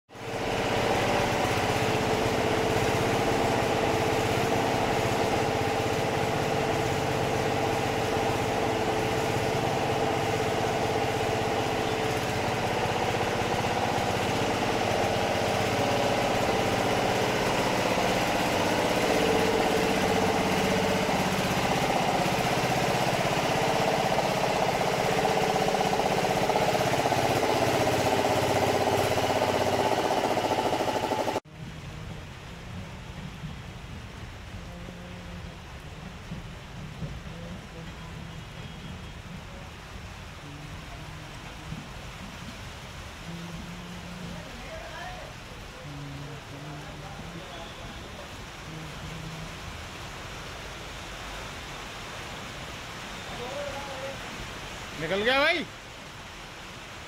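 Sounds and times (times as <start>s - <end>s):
diesel water pumps running: 0.1s - 57.0s.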